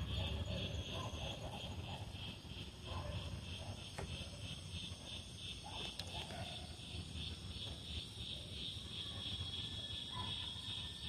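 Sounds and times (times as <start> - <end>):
crickets chirping: 0.0 - 11.0
faint low outdoor rumble: 0.0 - 11.0.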